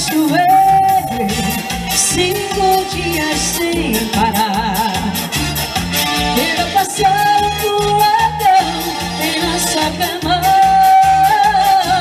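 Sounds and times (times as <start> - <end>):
pulsing bass beat: 0.0 - 10.9
held melody line: 0.0 - 12.0.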